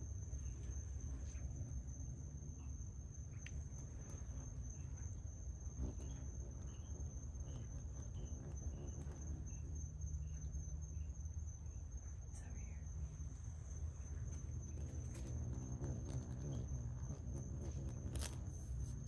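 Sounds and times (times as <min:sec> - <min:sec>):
low rumble on microphone: 0:00.0 - 0:19.0
night insects trilling: 0:00.0 - 0:19.0.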